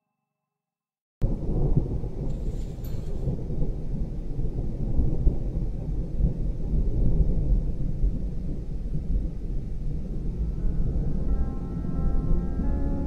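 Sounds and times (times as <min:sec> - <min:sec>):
thunder rumbling: 0:01.2 - 0:13.0.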